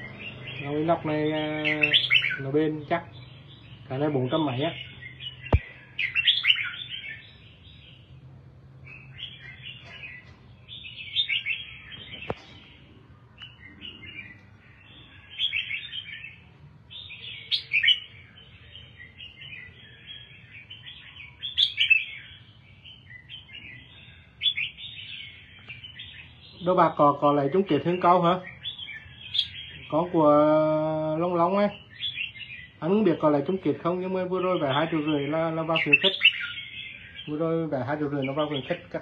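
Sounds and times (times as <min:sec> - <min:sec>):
bird singing warbling phrases: 0:00.0 - 0:39.0.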